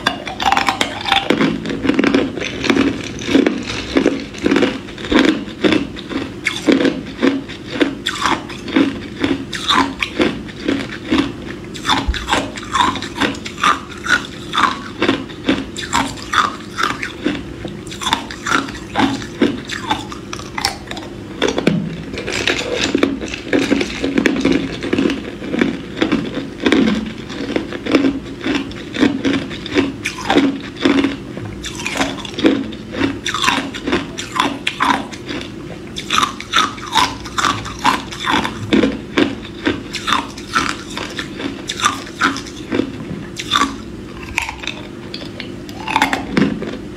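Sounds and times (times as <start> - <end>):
ice crunching in the mouth: 0.0 - 15.2, 22.2 - 44.8.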